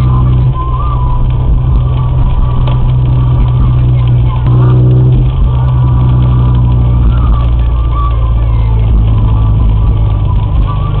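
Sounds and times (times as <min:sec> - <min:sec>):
car engine and road noise drone: 0:00.0 - 0:11.0.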